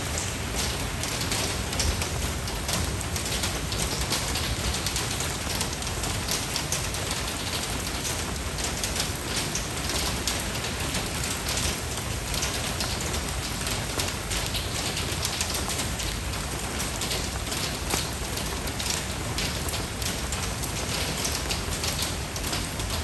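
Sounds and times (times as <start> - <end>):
rain pattering: 0.0 - 23.0.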